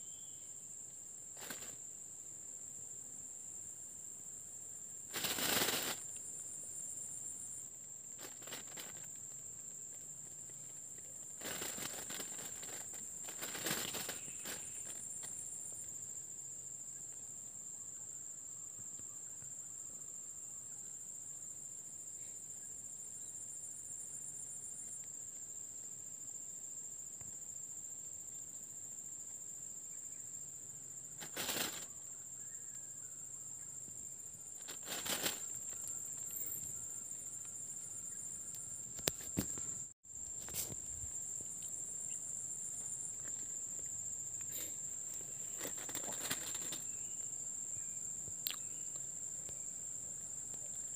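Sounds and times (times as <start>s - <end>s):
high-pitched cricket chorus: 0.0s - 50.9s
pulsing insect call: 4.8s - 50.9s.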